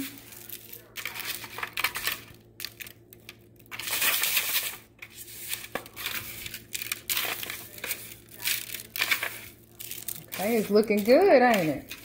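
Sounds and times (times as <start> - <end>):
breadcrumbs rustling and crunching: 0.0 - 12.0
foil pan crinkling: 0.0 - 12.0.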